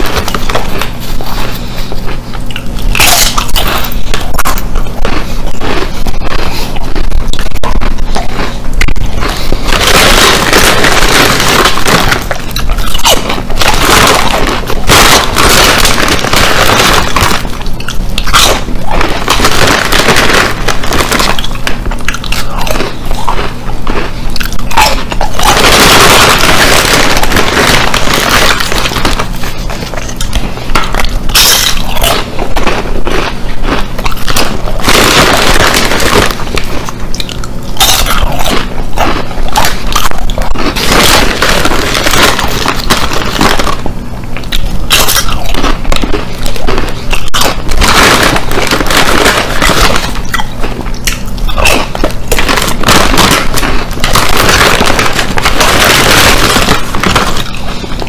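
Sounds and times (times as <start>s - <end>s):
man crunching potato chips: 0.0s - 58.0s.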